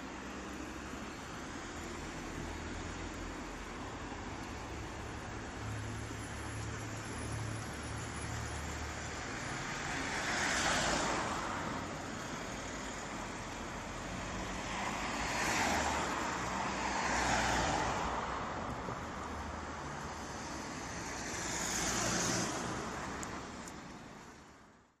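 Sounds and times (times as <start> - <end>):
road traffic: 0.0 - 25.0
vehicles passing close by: 0.0 - 25.0.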